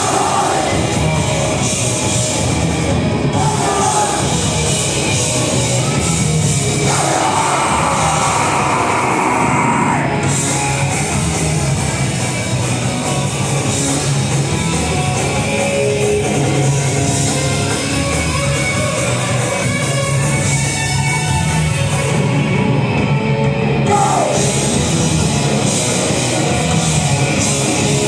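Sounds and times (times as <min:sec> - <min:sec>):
distorted guitars and bass: 0:00.0 - 0:28.0.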